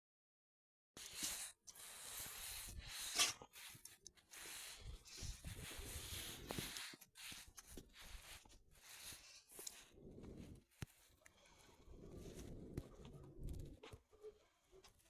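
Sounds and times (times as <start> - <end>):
dog sniffing and breathing: 1.0 - 15.0.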